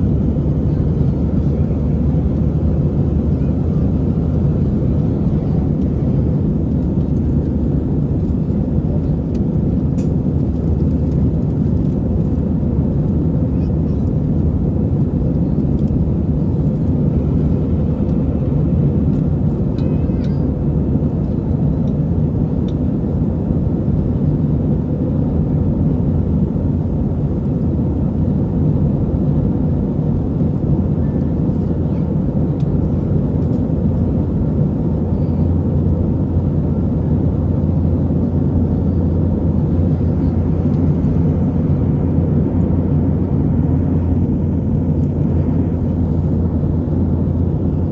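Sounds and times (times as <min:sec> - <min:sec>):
jet engine drone in cabin: 0:00.0 - 0:47.9.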